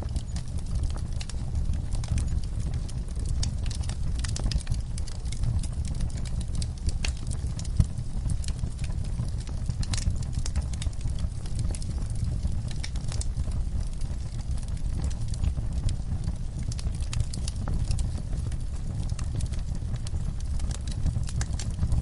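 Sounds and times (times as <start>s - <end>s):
fire flames rumbling: 0.0s - 22.0s
fire popping and snapping: 0.0s - 22.0s.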